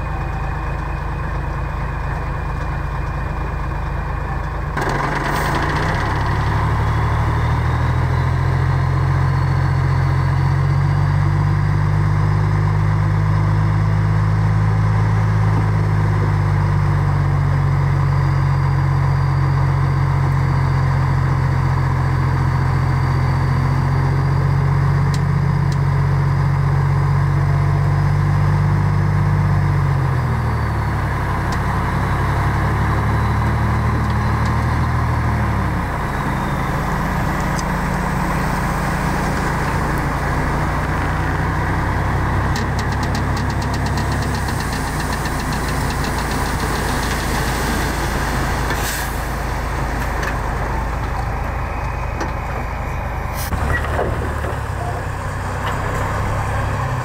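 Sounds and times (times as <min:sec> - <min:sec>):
large diesel engine running: 0:00.0 - 0:57.0.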